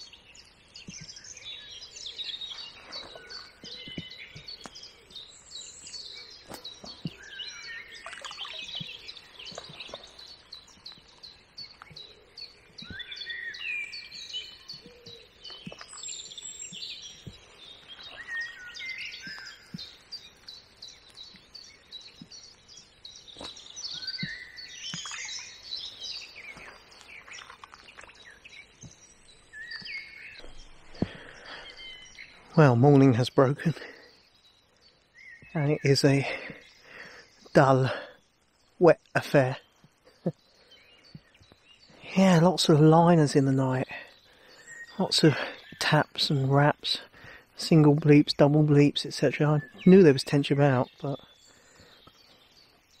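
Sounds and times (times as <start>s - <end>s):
birds chirping and whistling: 0.0s - 53.0s.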